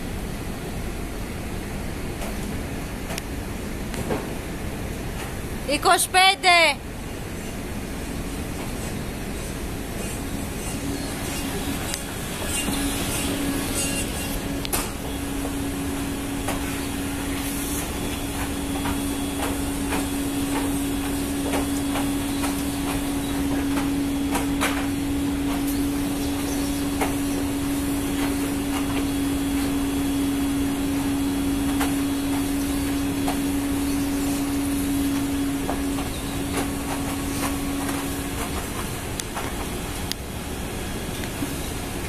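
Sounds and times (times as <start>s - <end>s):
ship machinery humming: 0.0s - 42.0s.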